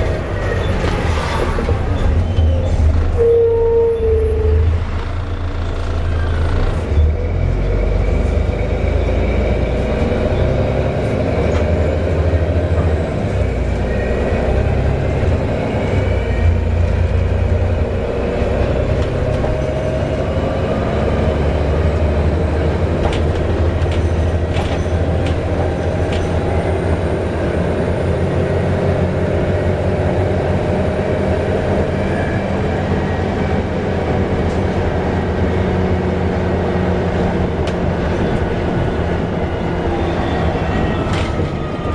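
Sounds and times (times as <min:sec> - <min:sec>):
bus engine drone with whine: 0:00.0 - 0:41.9.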